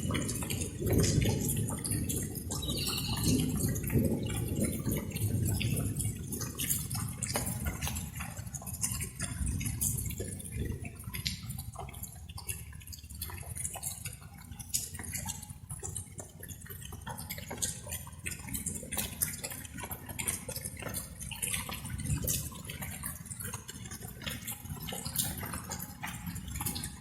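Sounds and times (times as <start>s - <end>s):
raindrops pattering and dripping: 0.0s - 27.0s.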